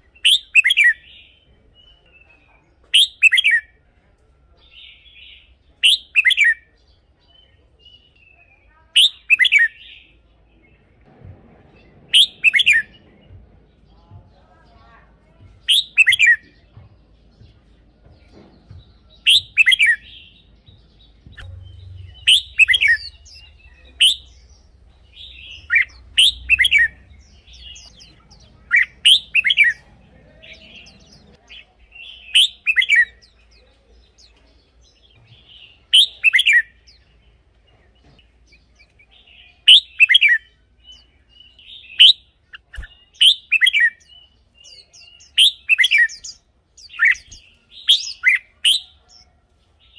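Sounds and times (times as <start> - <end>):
bird singing warbled phrases: 0.0 - 3.8, 4.5 - 11.0, 11.9 - 49.9.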